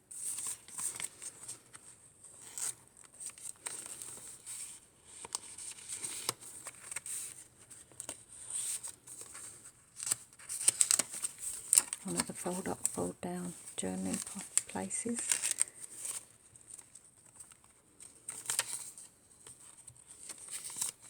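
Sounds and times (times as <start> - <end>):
paper pages rustling: 0.1 - 21.0.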